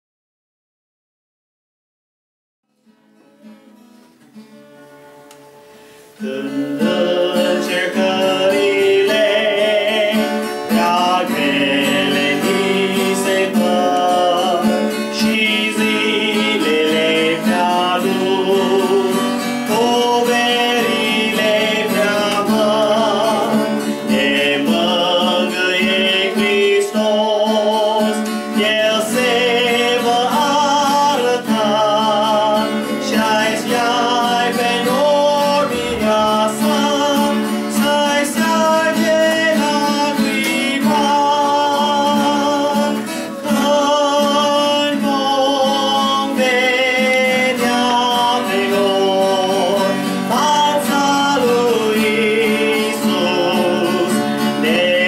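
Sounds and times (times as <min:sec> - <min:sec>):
strummed acoustic guitar: 0:02.7 - 0:55.0
man singing: 0:06.2 - 0:55.0.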